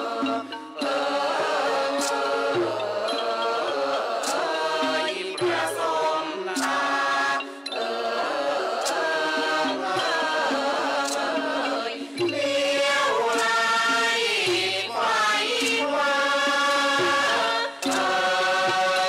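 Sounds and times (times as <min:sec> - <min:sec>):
vocal chorus singing: 0:00.0 - 0:19.0.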